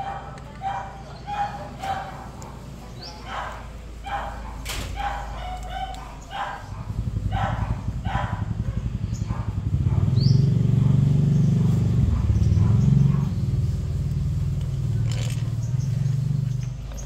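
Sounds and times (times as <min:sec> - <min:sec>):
bird chirping: 0:00.0 - 0:10.6, 0:11.2 - 0:17.0
dog barking: 0:00.0 - 0:14.0
vehicle engine rumbling: 0:00.0 - 0:17.0.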